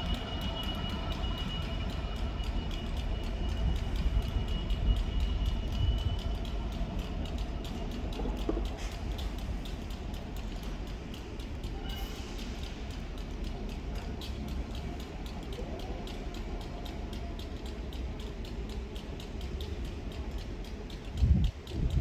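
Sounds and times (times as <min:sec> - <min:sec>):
fast even ticking: 0:00.0 - 0:22.0
train rumbling: 0:00.0 - 0:22.0.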